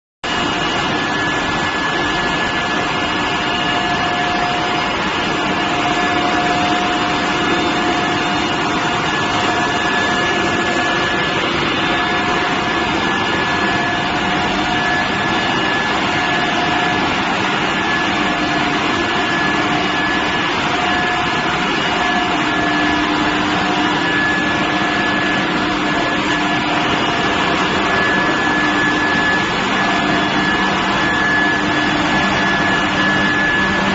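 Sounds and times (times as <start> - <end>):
furnace machine noise with high whine: 0.2 - 33.9.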